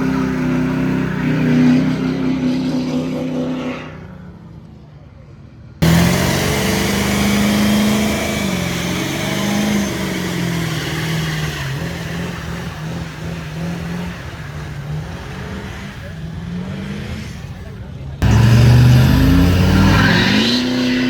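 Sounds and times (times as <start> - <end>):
truck engine at high revs: 0.0 - 4.2, 5.8 - 21.0.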